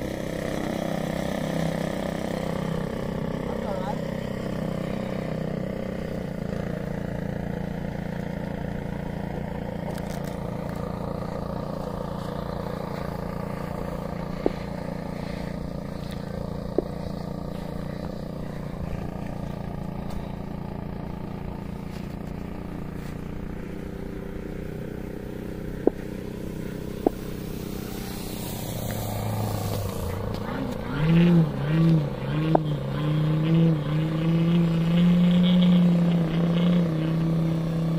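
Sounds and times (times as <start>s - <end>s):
rc airplane propeller drone: 0.0s - 37.9s.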